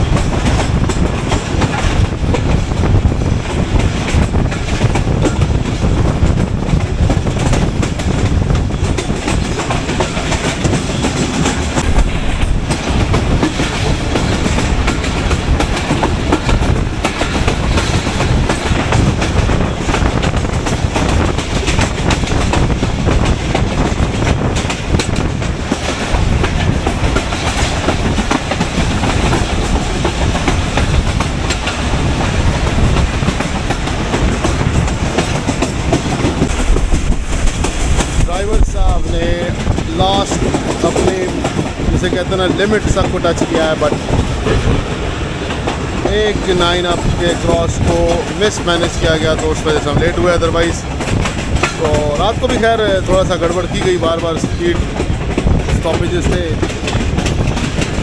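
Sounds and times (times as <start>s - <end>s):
train rumbling: 0.0s - 58.0s
wheels clattering over rail joints: 0.0s - 58.0s.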